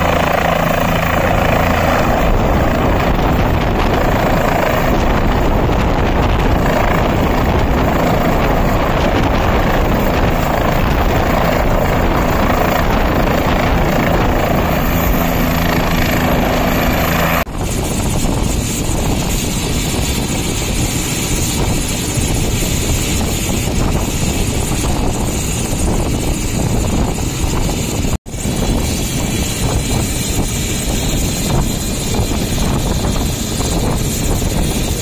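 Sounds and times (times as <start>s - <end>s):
helicopter engine and rotor: 0.0s - 35.0s.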